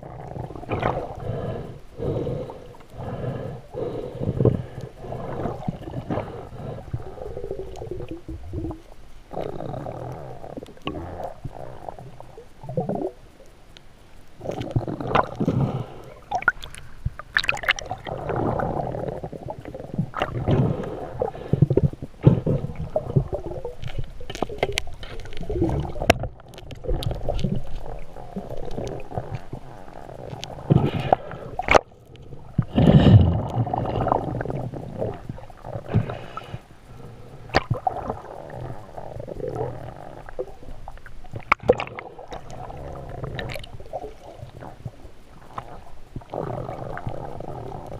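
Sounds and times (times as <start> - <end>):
muffled underwater sloshing: 0.0 - 47.9.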